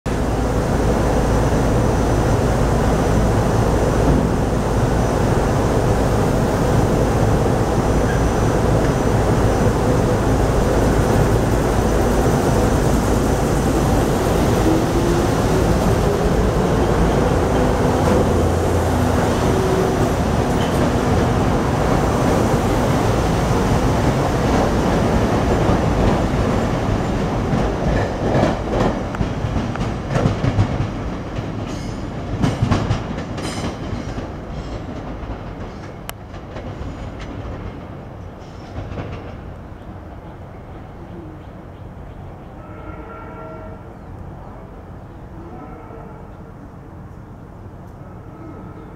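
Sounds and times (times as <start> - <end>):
train running past: 0.1 - 48.9.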